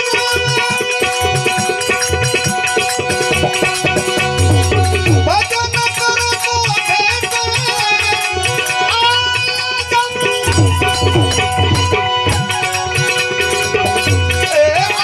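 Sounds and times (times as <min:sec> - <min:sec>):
held instrumental melody: 0:00.0 - 0:15.0
tabla drumming: 0:00.0 - 0:15.0.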